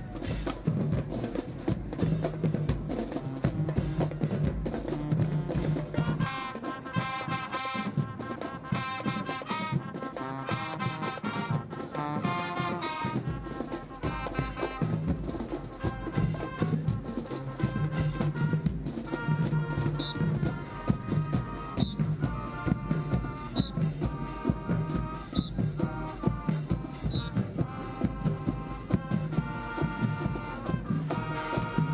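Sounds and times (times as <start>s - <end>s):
brass chords: 3.1s - 31.9s.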